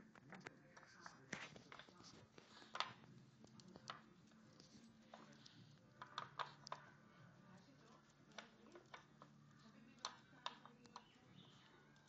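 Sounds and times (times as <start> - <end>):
light taps and clicks on toy: 0.0 - 12.0.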